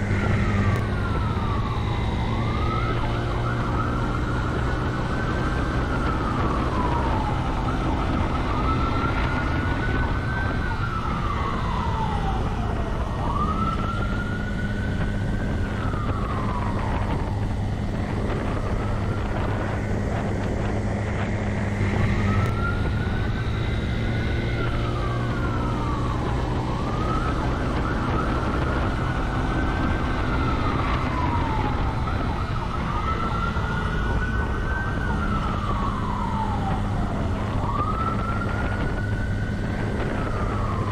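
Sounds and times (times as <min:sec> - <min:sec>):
police siren wailing: 0:00.0 - 0:40.9
vehicle engine and road noise: 0:00.0 - 0:40.9.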